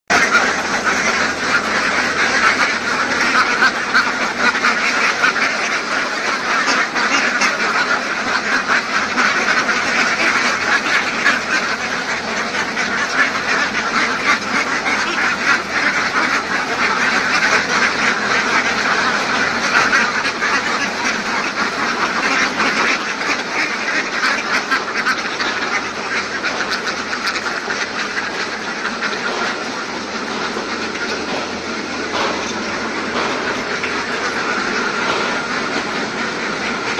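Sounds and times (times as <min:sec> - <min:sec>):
flock of ducks quacking: 0:00.1 - 0:36.9.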